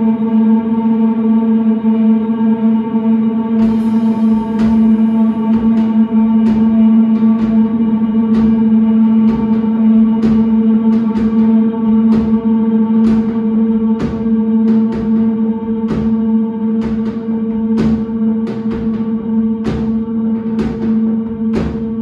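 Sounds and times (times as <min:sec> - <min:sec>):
drum and cymbal hits: 0:03.6 - 0:22.0.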